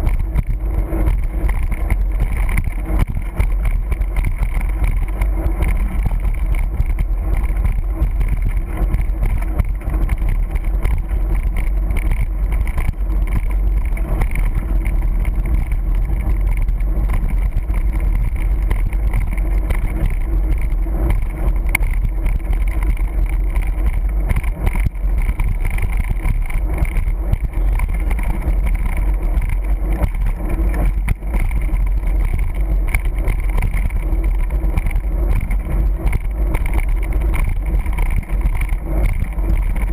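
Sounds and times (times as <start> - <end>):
bike tyres rolling on asphalt: 0.0 - 39.9
wind rushing over microphone: 0.0 - 39.9.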